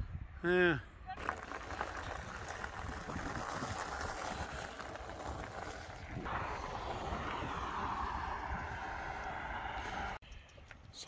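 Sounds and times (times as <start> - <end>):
wind noise: 0.0 - 11.0
rolling road noise: 1.2 - 10.2.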